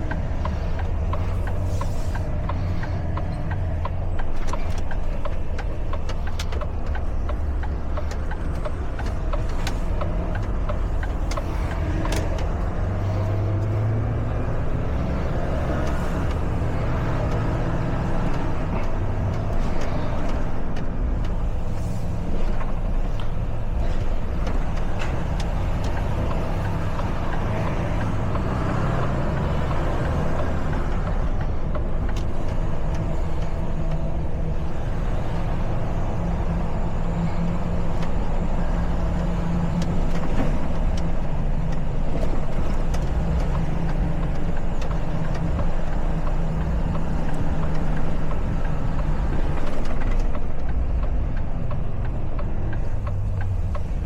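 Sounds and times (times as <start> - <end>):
road and traffic noise: 0.0 - 54.0
truck engine running: 0.0 - 54.0.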